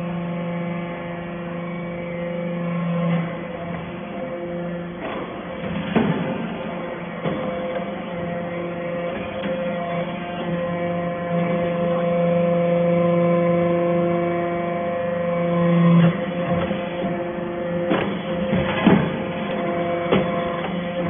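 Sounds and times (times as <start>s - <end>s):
hydraulic baler humming: 0.0s - 21.0s.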